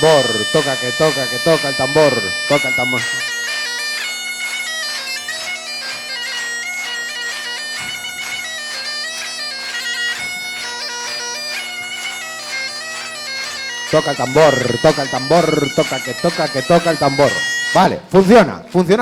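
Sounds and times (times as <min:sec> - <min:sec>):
bagpipe melody with drone: 0:00.0 - 0:19.0.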